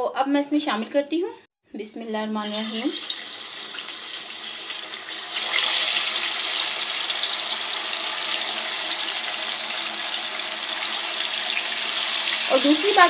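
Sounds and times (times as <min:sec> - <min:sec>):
fish sizzling in fat: 0:02.4 - 0:13.0.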